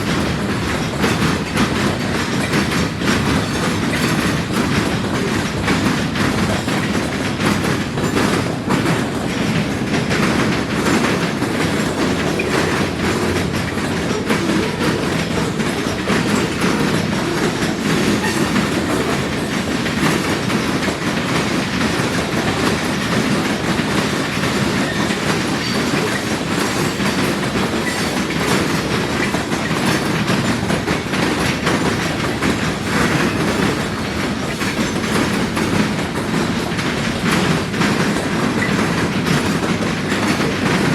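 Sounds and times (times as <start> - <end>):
train wheels clattering: 0.0 - 40.9.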